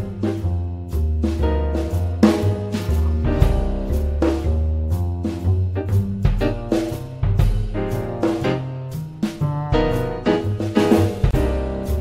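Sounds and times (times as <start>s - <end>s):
background music with drums: 0.0s - 12.0s.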